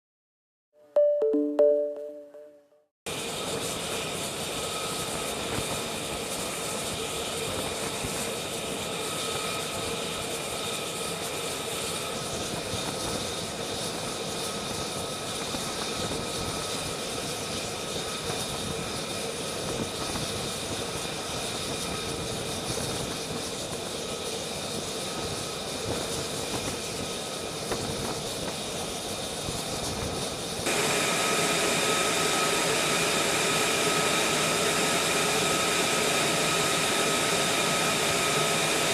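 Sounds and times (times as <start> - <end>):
jet engine roar with turbine whine: 3.1 - 38.9.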